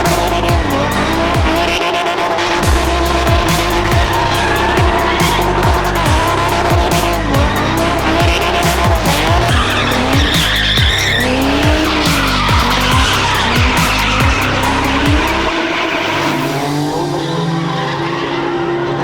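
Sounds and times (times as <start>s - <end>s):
background music: 0.0s - 18.9s
car engine revving hard: 0.0s - 19.0s
tyres squealing and skidding: 0.0s - 19.0s.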